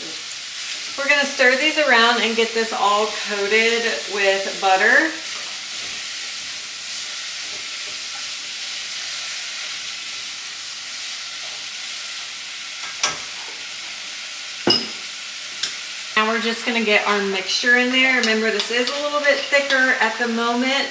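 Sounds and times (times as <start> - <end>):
apples sizzling in butter: 0.0 - 20.9.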